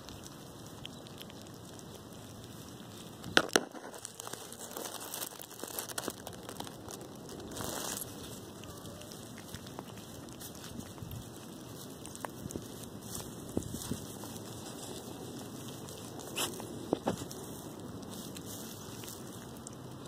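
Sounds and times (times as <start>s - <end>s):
puppies gnawing bones: 0.0s - 20.0s.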